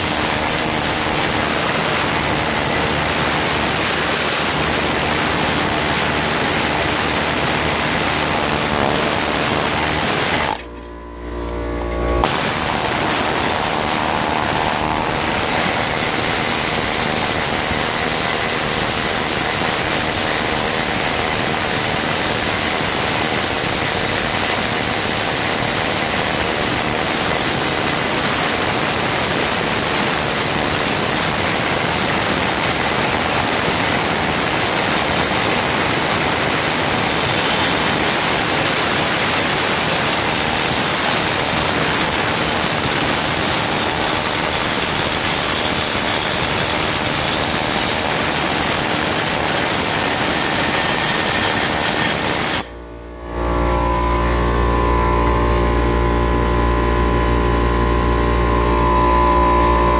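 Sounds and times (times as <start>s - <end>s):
pneumatic needle scaler hammering steel: 0.0s - 52.8s.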